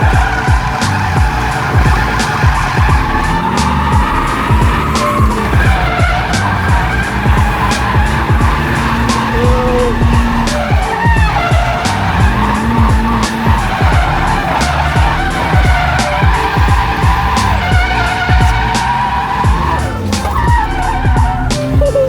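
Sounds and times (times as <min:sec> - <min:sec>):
engine at high revs: 0:00.0 - 0:22.0
music with a steady beat: 0:00.0 - 0:22.0
tyres squealing: 0:00.0 - 0:22.0.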